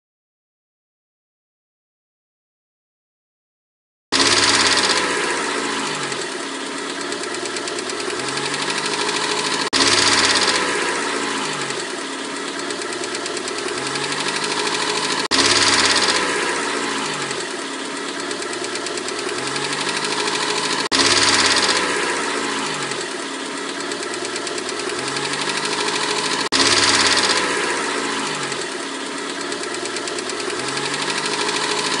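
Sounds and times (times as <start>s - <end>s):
car engine idling: 4.2s - 32.0s.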